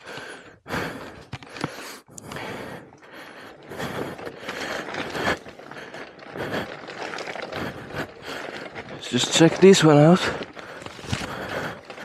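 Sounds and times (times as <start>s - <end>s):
bike chain rattling and clicking: 0.0s - 12.0s.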